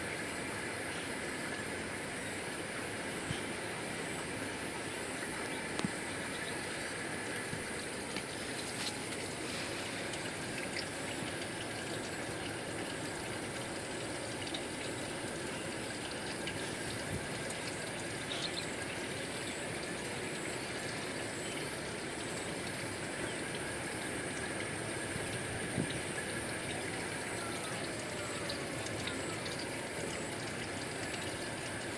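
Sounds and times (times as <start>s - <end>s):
trickling flowing water: 0.0s - 31.9s.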